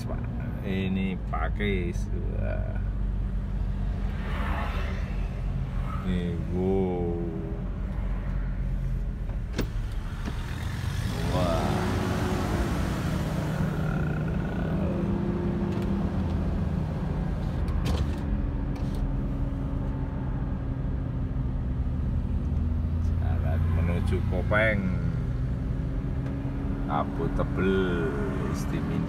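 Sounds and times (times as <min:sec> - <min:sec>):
car engine and road hum: 0:00.0 - 0:29.0.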